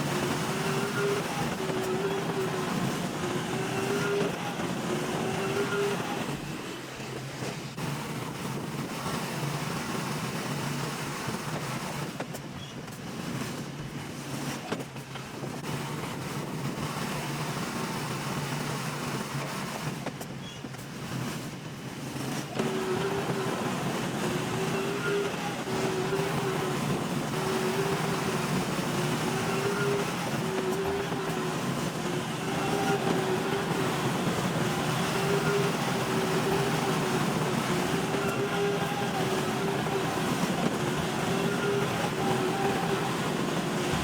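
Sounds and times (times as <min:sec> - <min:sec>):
diesel engine of earthmoving machine: 0:00.0 - 0:44.0.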